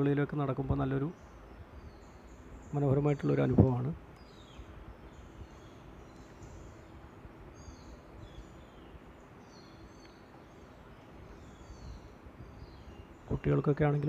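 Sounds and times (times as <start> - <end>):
faint steady hum: 0.0 - 14.0
steady background hiss: 0.0 - 14.0.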